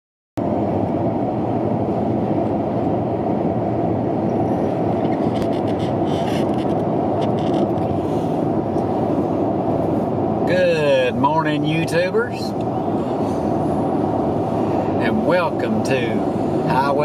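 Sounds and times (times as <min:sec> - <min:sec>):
car road and tyre noise: 0:00.4 - 0:17.0.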